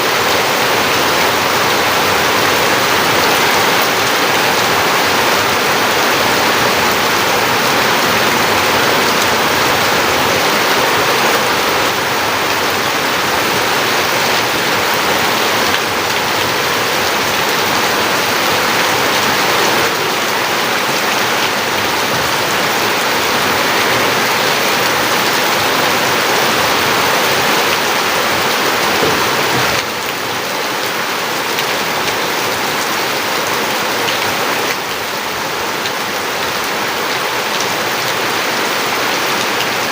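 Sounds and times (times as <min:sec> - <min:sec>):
heavy rain on surfaces: 0:00.0 - 0:39.9.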